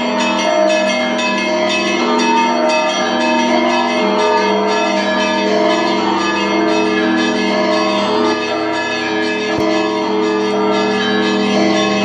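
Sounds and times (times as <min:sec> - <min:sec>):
church bells pealing: 0:00.0 - 0:12.0
low bell ringing tone: 0:00.0 - 0:12.0.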